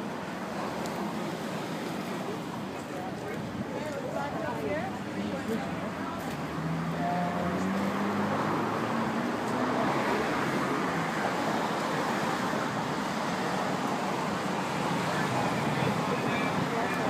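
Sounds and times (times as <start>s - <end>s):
city traffic rumble and hiss: 0.0s - 17.0s.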